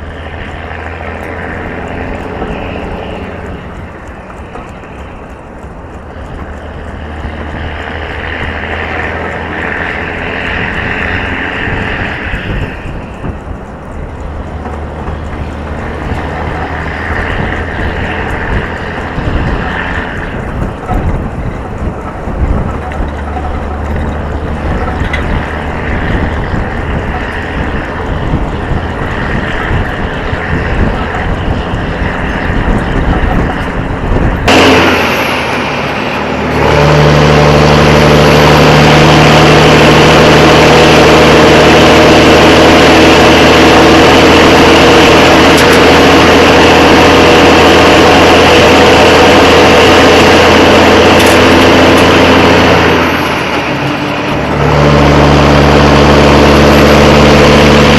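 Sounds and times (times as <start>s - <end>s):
heavy diesel engine droning: 0.0s - 57.9s
low rumble: 0.0s - 57.9s
wind noise: 0.0s - 57.9s.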